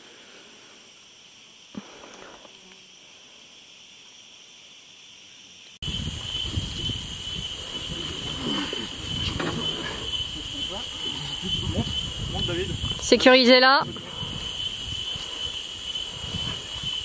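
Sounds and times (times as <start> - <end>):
insects chorus: 0.0 - 17.0.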